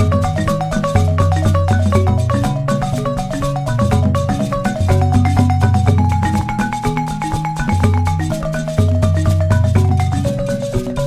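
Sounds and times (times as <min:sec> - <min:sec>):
marimba-like mallet notes: 0:00.0 - 0:11.0
steady bass line: 0:00.0 - 0:11.0.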